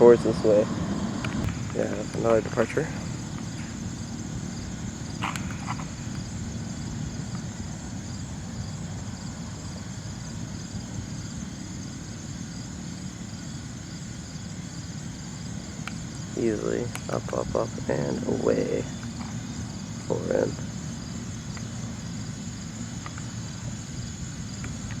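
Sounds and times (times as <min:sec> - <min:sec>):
distant jet engines rumbling: 0:00.0 - 0:25.0.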